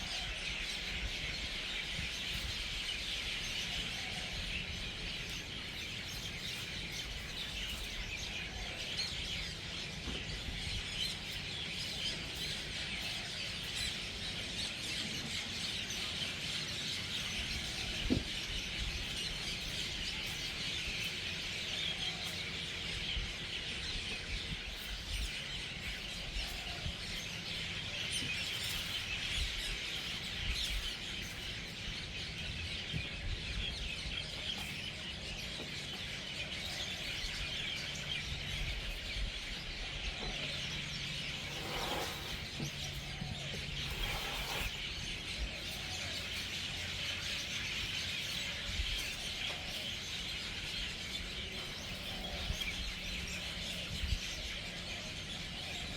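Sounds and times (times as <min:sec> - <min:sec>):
flock of birds chirping: 0:00.0 - 0:55.9.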